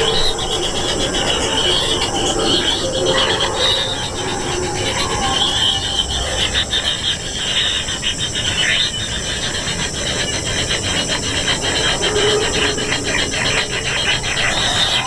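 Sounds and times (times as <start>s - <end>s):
nestlings rasping begging calls: 0.0s - 15.0s.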